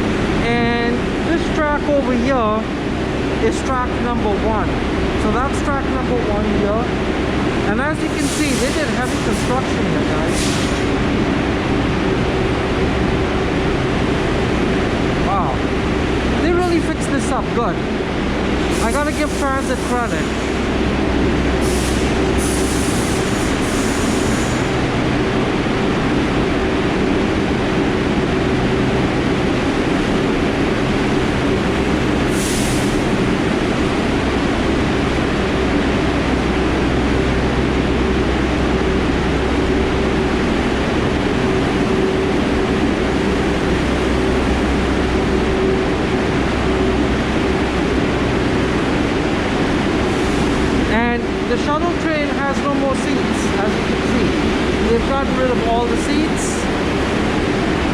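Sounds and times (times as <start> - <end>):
subway train rumble: 0.0 - 57.9.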